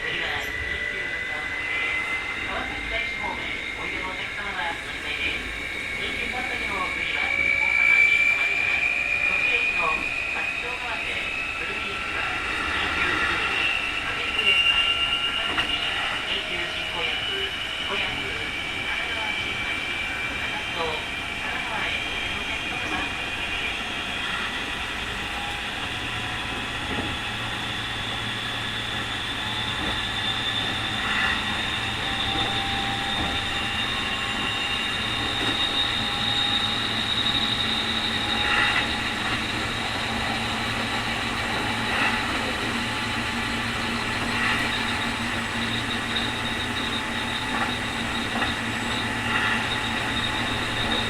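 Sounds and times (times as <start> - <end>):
electric train running: 0.0 - 51.0
high jet-like whine: 0.0 - 51.0.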